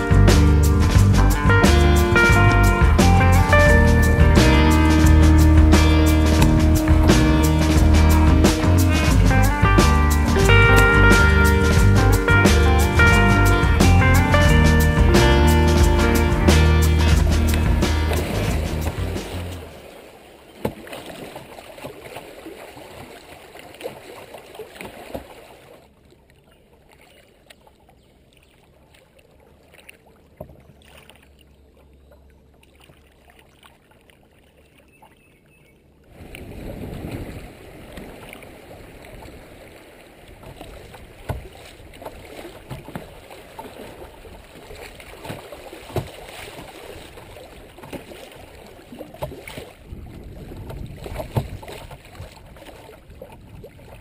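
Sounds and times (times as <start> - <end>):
creek water rushing and splashing: 0.0 - 35.1, 36.0 - 54.0.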